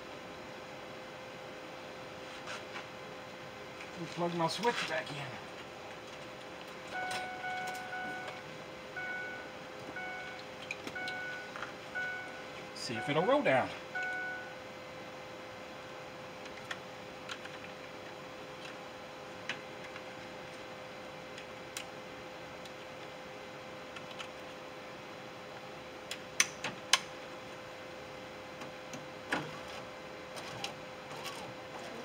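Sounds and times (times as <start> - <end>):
faint hum: 0.0 - 26.4.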